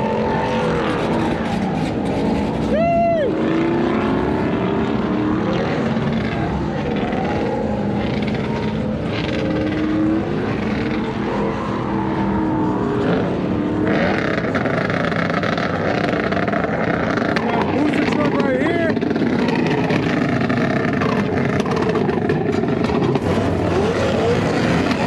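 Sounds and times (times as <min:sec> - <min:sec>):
vehicle engines revving: 0:00.0 - 0:25.0.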